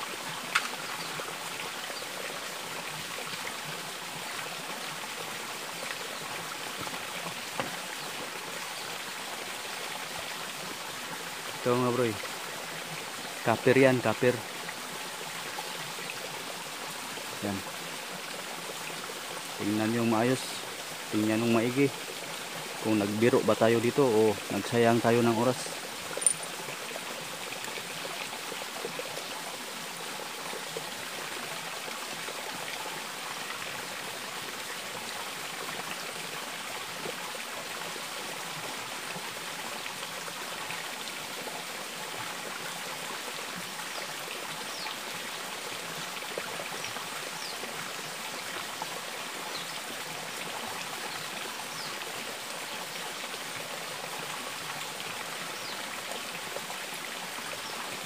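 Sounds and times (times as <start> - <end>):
stream trickling over rock: 0.0 - 58.0.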